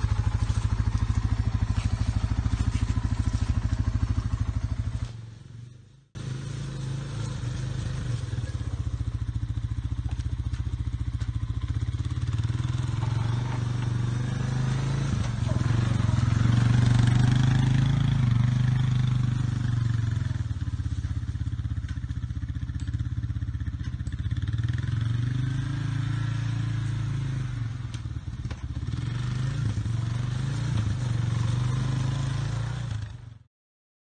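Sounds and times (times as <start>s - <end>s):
quad bike engine running: 0.0s - 33.5s.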